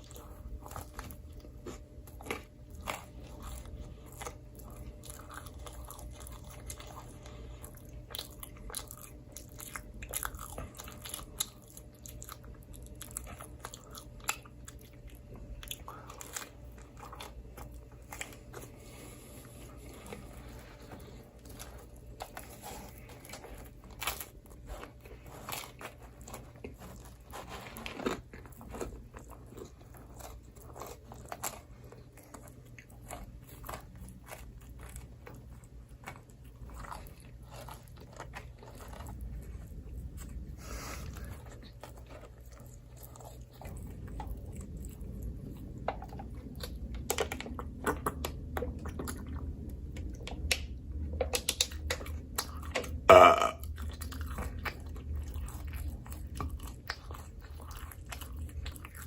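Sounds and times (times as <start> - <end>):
chewing and biting pizza: 0.0 - 59.0
steady low hum: 0.0 - 59.0.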